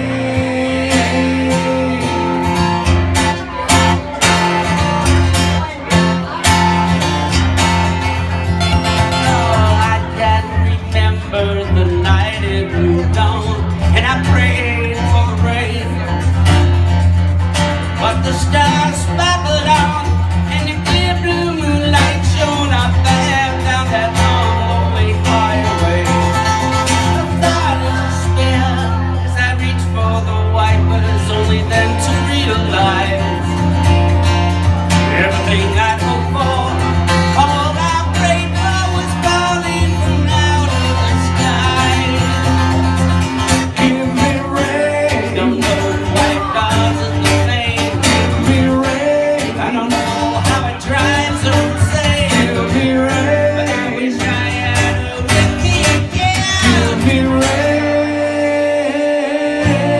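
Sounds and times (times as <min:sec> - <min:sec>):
acoustic country music: 0:00.0 - 0:59.9
guitar playing: 0:00.0 - 0:59.9.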